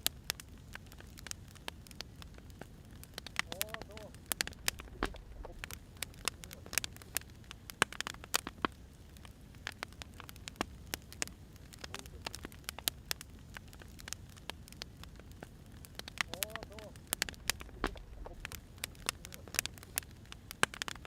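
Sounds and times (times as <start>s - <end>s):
firewood popping and snapping: 0.0s - 21.0s
low rumble of flames: 0.0s - 21.0s.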